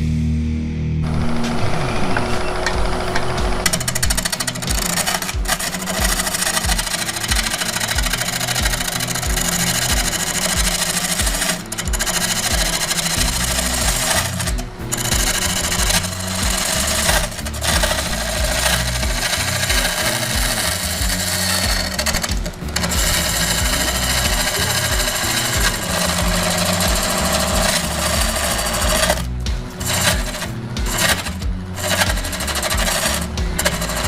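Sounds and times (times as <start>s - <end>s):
lathe gouge chattering cut: 1.1s - 34.0s.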